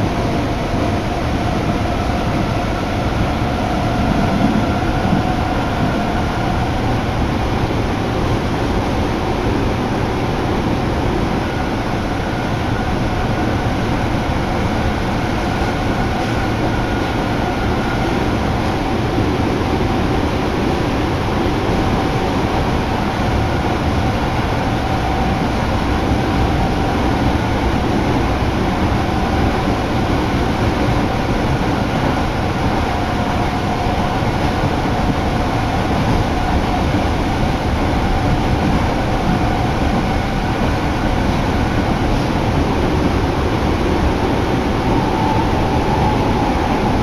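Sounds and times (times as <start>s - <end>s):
wheels rumbling on rails: 0.0s - 47.0s.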